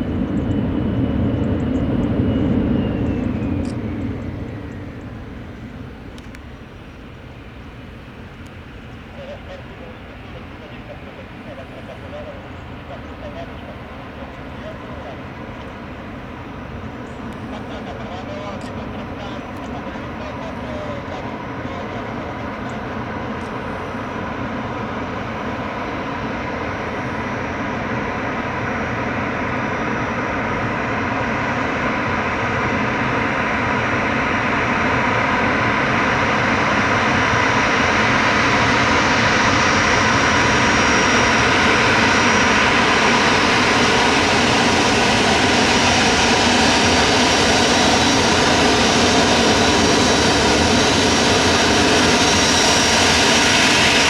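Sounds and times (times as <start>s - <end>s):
high jet engine whine: 0.0s - 54.0s
jet engines rumbling: 0.0s - 54.0s.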